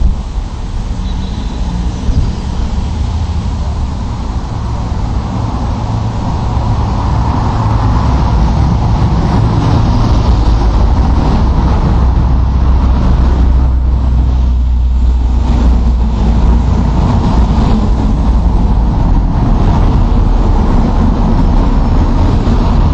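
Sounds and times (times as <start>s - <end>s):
deep engine rumble: 0.0s - 22.9s.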